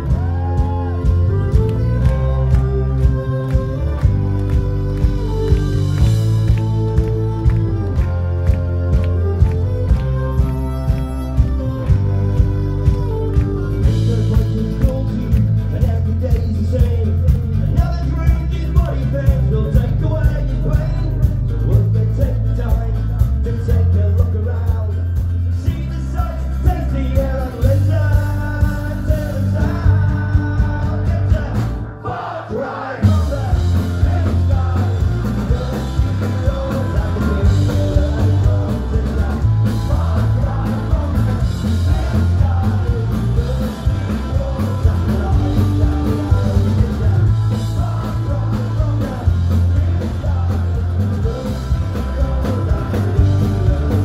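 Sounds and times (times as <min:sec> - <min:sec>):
person singing: 0:00.0 - 0:25.0, 0:25.6 - 0:54.0
folk-punk band playing: 0:00.0 - 0:54.0.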